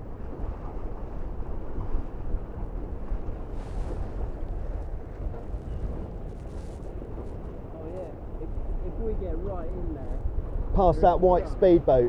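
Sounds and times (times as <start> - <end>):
water noise: 0.0 - 10.8
wind rushing over microphone: 0.0 - 12.0.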